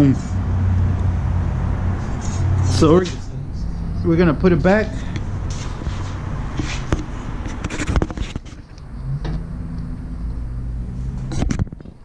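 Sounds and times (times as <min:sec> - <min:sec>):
low steady hum: 0:00.0 - 0:11.4.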